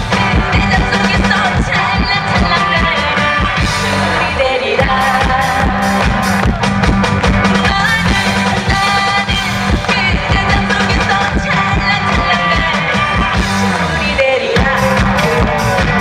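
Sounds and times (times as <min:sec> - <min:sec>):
woman singing: 0:00.0 - 0:06.2, 0:07.5 - 0:16.0
upbeat band with drum beat: 0:00.0 - 0:16.0.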